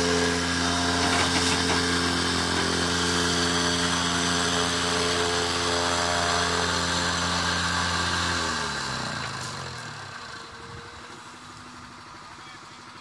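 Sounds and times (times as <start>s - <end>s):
excavator diesel engine: 0.0s - 13.0s.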